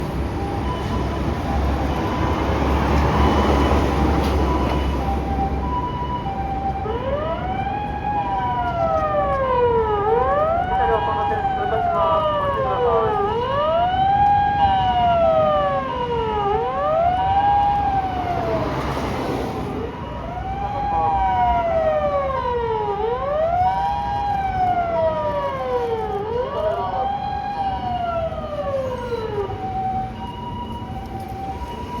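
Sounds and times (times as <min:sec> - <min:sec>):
ambulance siren hi-lo tone: 0:00.0 - 0:32.0
road and engine rumble: 0:00.0 - 0:32.0
siren wail rising and falling: 0:00.3 - 0:32.0.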